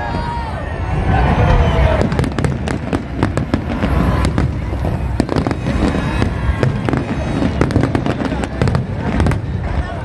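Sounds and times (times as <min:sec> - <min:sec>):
fireworks cracks and bangs: 0:01.0 - 0:10.0.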